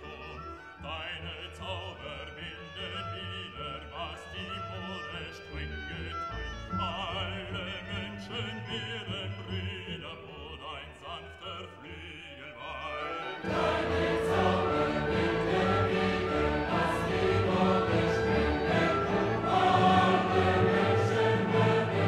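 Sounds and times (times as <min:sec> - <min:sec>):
operatic singing with music: 0:00.0 - 0:22.0.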